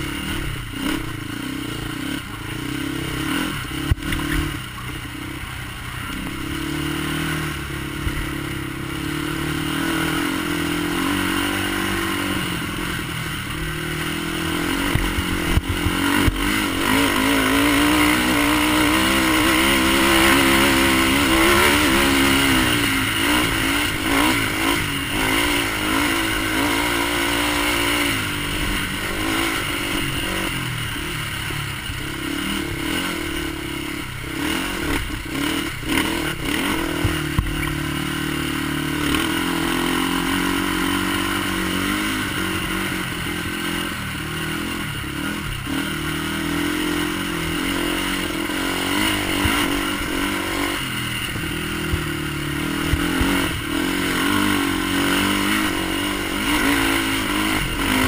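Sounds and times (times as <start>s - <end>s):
quad engine revving: 0.0s - 58.0s
quad knocking over bumps: 0.0s - 58.0s.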